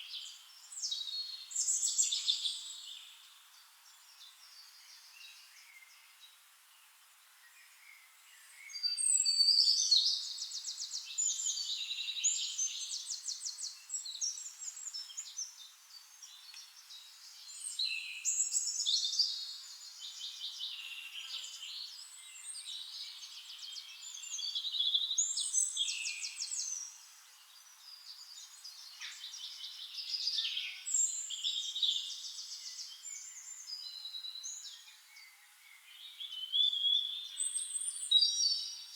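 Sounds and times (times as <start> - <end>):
songbirds trilling and chirping: 7.6 - 38.9.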